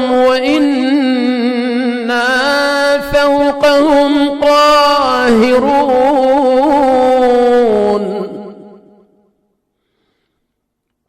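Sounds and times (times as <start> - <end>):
man reciting melodically: 0.0 - 9.0.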